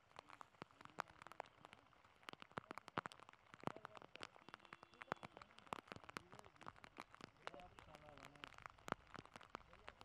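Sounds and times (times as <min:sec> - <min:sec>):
rain drops falling: 0:00.0 - 0:10.0.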